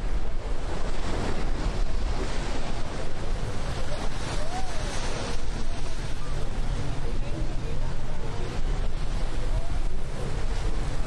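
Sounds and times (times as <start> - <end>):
wind gusting across microphone: 0.0 - 11.0.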